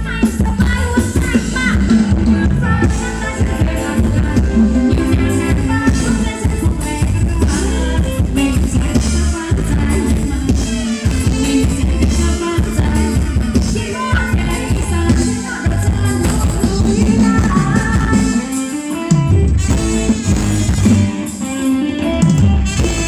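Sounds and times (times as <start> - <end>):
person singing: 0.0 - 19.0
drum kit: 0.0 - 23.0
electric guitar: 0.0 - 23.0.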